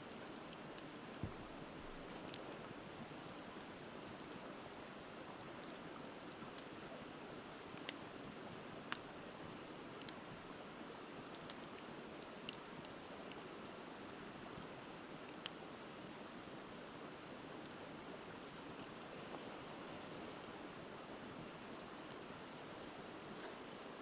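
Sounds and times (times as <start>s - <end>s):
bonfire crackling: 0.1s - 15.6s, 17.4s - 24.0s
river flowing: 0.1s - 24.0s.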